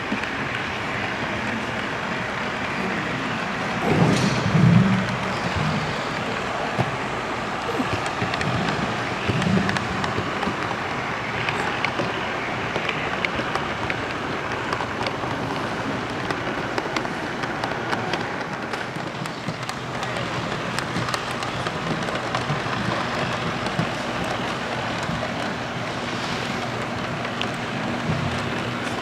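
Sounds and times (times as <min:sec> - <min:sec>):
murmur of crowd in hall: 0:00.0 - 0:29.0.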